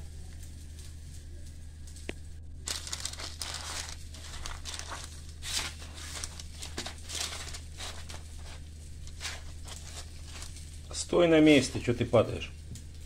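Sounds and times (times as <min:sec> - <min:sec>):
low steady hum: 0:00.0 - 0:13.0
rustling and crinkling: 0:00.0 - 0:13.0.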